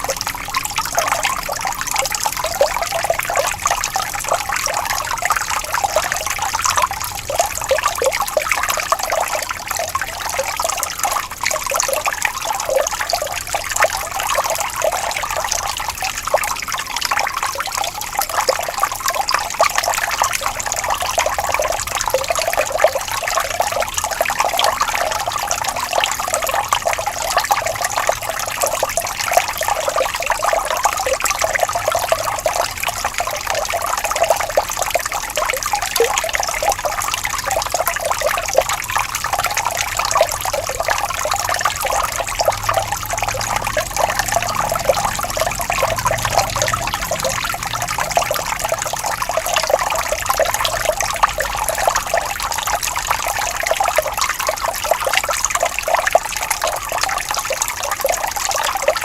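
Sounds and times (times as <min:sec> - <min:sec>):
stream trickling and bubbling: 0:00.0 - 0:59.0.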